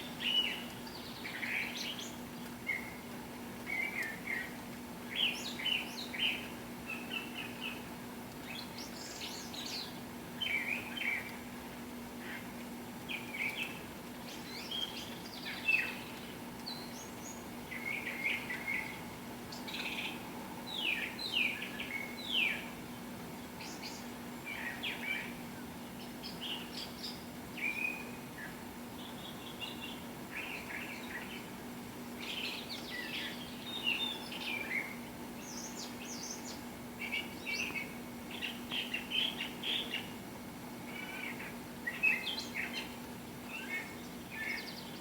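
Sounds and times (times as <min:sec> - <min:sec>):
songbirds singing and calling: 0:00.0 - 0:11.6, 0:12.2 - 0:45.0.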